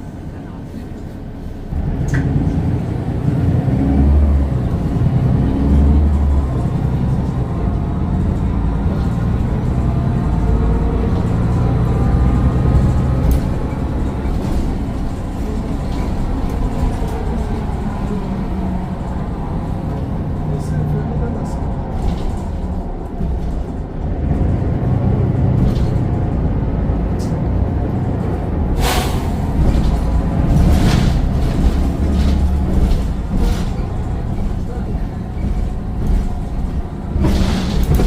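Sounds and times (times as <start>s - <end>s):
diesel bus engine accelerating: 0.0s - 38.0s.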